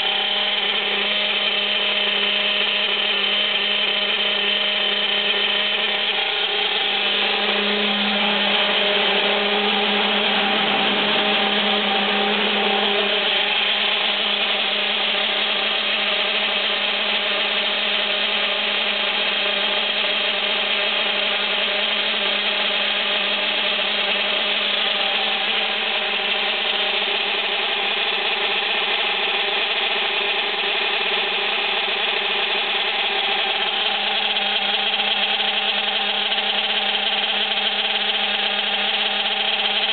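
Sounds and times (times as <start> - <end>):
rc truck engine idling: 0.0 - 39.9.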